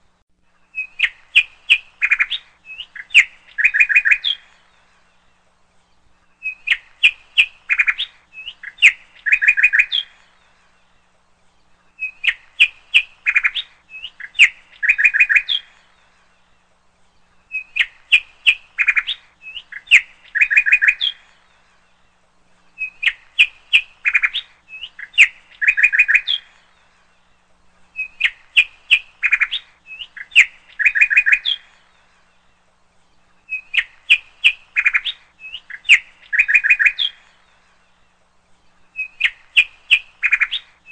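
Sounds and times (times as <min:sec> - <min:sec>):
bird chirping and trilling: 0:00.6 - 0:40.9.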